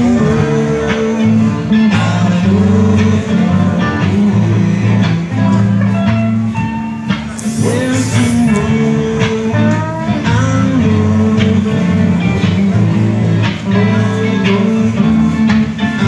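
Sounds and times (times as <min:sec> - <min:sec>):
low bass notes: 0:00.0 - 0:16.0
rock band electric guitars: 0:00.0 - 0:16.0.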